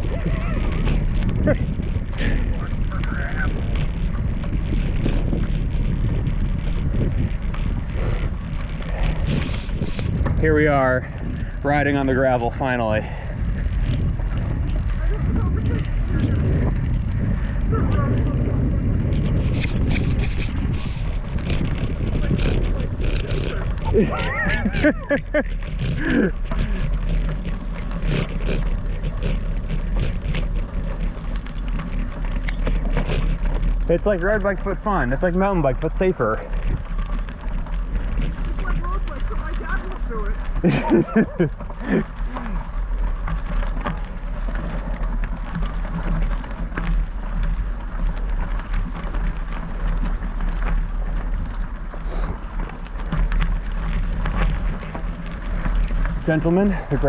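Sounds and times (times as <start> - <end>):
bicycle tyres rolling over gravel: 0.0 - 57.0
wind buffeting microphone: 0.0 - 57.0.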